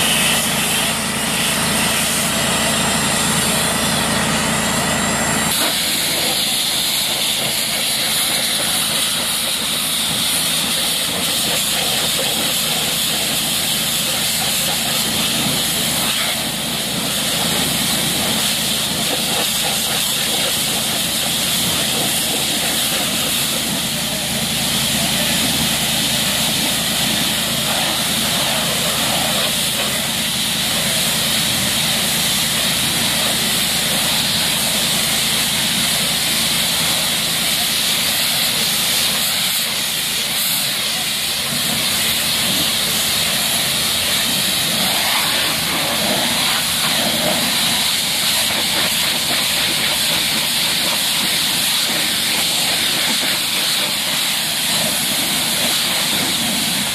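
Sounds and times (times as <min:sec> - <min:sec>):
pressure washer water jet hissing: 0:00.0 - 0:56.9
washer engine running: 0:00.0 - 0:56.9.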